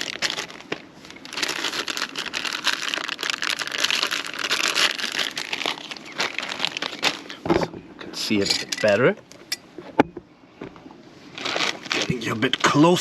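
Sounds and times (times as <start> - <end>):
crinkling and rustling: 0.0 - 10.0, 10.6 - 13.0.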